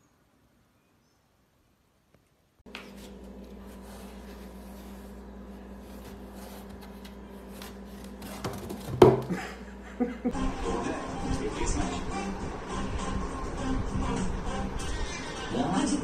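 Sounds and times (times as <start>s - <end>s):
steady electrical hum: 1.8s - 16.0s.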